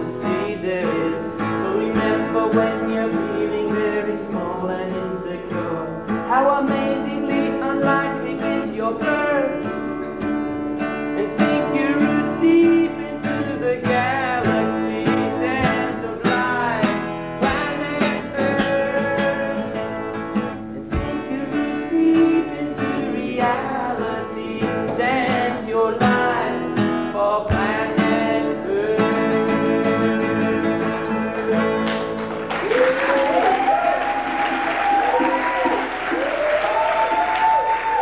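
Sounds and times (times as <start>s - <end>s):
person singing: 0.0s - 32.1s
acoustic guitar strummed: 0.0s - 32.6s.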